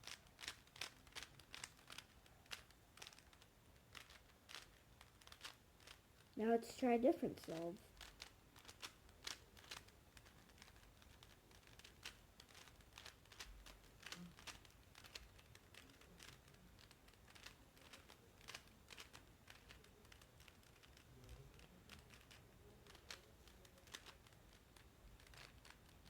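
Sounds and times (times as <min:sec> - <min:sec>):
plastic puzzle cube clicking: 0:00.0 - 0:06.4, 0:07.5 - 0:26.0.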